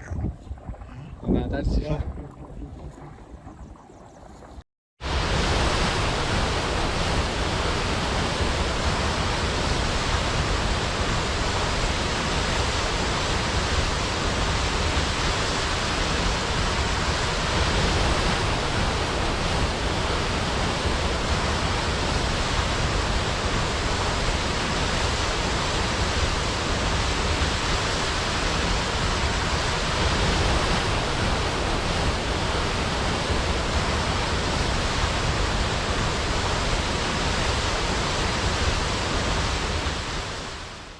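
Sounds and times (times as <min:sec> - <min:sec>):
water rushing through culvert: 0:05.0 - 0:40.9.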